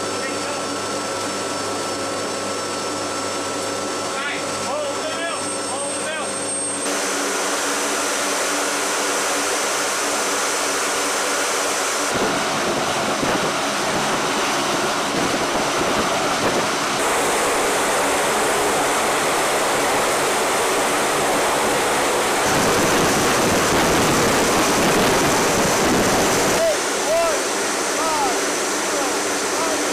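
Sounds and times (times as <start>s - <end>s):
turboprop engines roaring: 0.0s - 29.9s.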